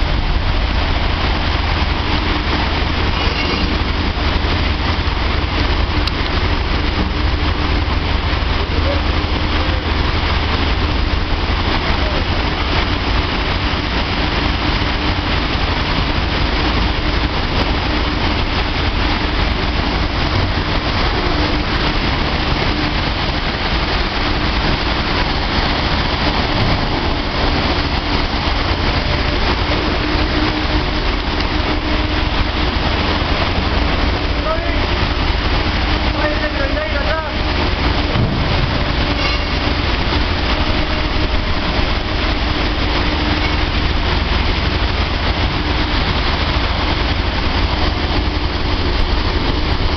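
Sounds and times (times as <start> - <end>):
dryer blowing and humming: 0.0 - 49.9.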